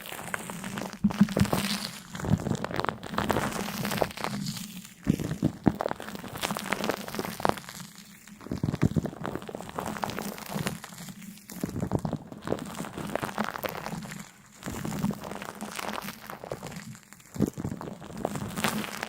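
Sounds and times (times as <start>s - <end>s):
crisp crinkling and crunching: 0.0s - 19.0s.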